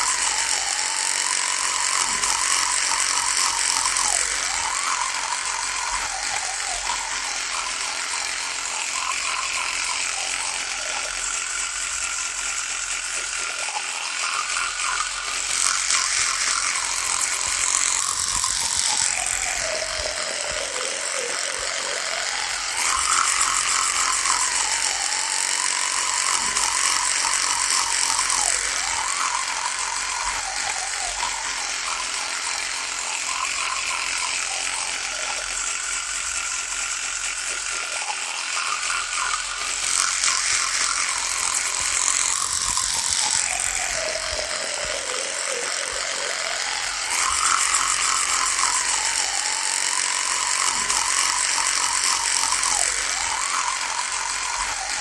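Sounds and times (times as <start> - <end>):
electric toothbrush buzzing: 0.0 - 55.0.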